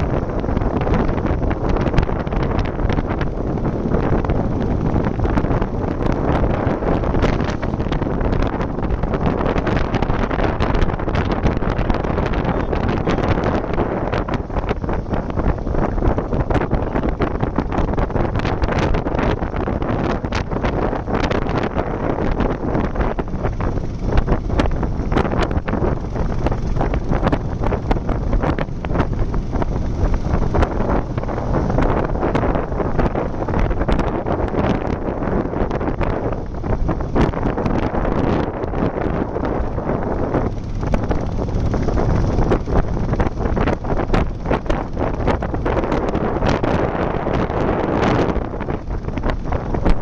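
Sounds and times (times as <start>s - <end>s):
motorcycle engine and road rumble: 0.0s - 50.0s
wind buffeting microphone: 0.0s - 50.0s.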